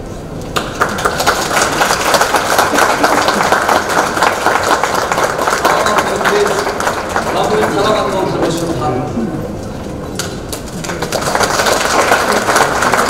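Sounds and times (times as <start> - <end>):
audience applauding: 0.5 - 8.8, 10.2 - 13.0.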